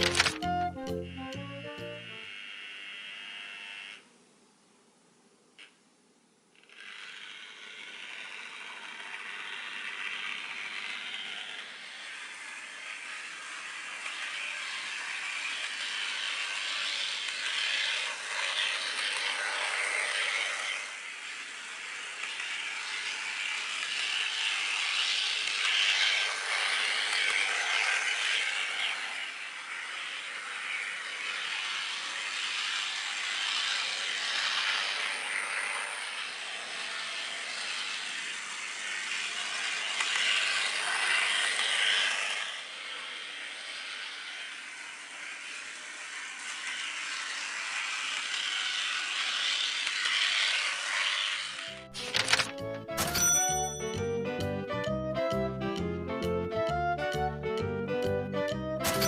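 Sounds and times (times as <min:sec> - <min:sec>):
model tram motor whirring: 0:00.0 - 0:04.0, 0:06.6 - 0:56.4
wheels rattling on track: 0:06.8 - 0:54.1.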